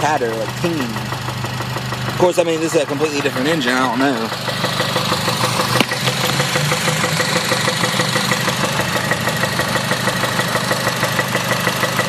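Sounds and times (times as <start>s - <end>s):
car engine idling with knock: 0.0s - 12.0s.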